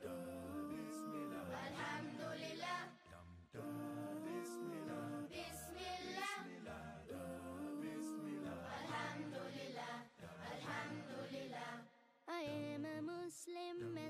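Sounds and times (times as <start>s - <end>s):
voices singing in harmony: 0.0s - 14.0s.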